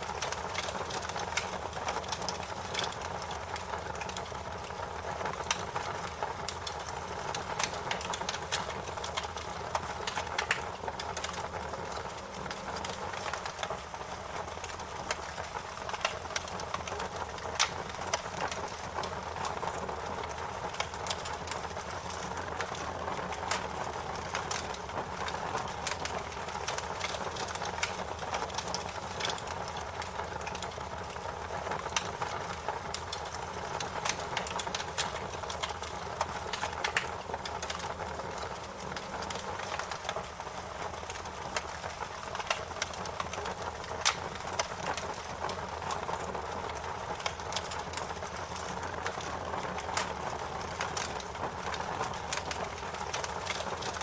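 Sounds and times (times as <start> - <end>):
fire crackling with sharp snaps: 0.0 - 54.0.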